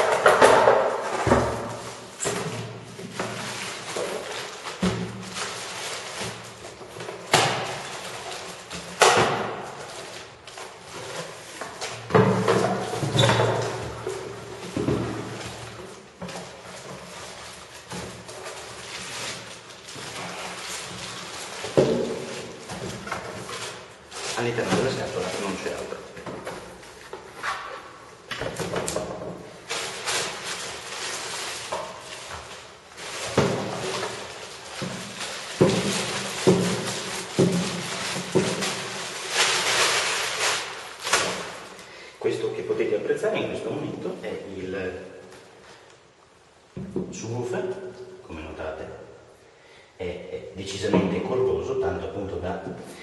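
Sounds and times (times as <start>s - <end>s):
plastic wrapping rustling: 0.0s - 46.8s.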